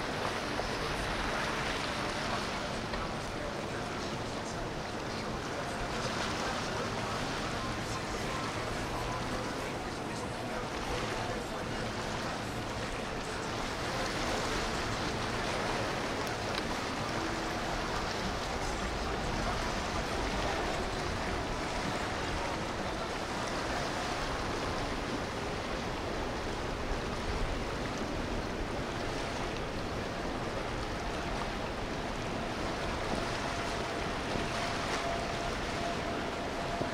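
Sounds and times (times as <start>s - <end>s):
water rushing: 0.0s - 36.9s
wind: 0.0s - 36.9s.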